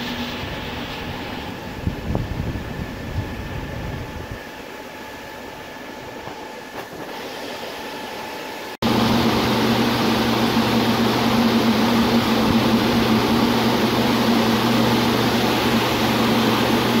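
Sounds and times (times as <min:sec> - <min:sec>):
churning frothing water: 0:00.0 - 0:08.1, 0:08.8 - 0:17.0
electric motor low hum: 0:00.0 - 0:17.0.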